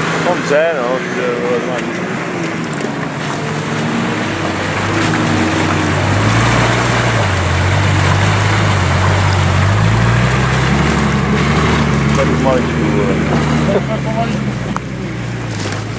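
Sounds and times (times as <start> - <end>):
loud steady rushing noise: 0.0 - 15.4
vehicle engine under load: 0.0 - 15.9.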